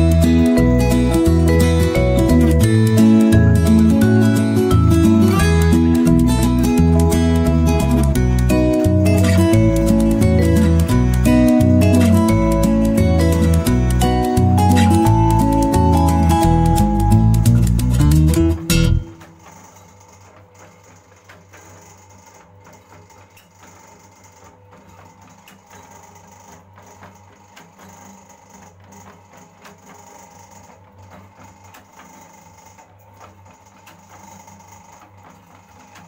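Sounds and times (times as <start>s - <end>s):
tablet making machine running: 0.0s - 36.0s.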